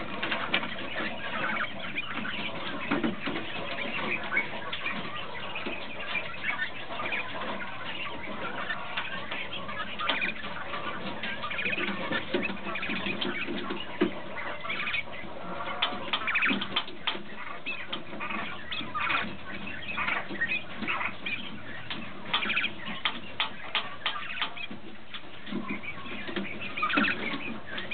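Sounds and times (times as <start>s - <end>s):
quail chirping and trilling: 0.0s - 27.9s.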